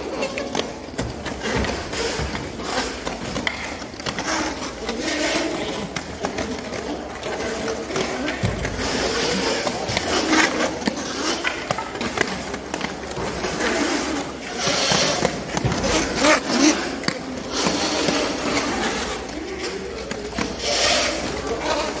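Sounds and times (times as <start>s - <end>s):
roller skate wheels rolling and scraping: 0.0s - 22.0s.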